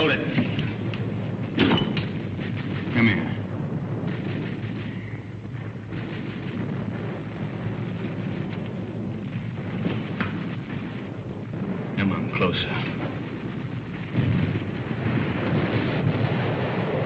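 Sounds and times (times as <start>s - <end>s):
artillery fire and explosions: 0.0s - 17.0s.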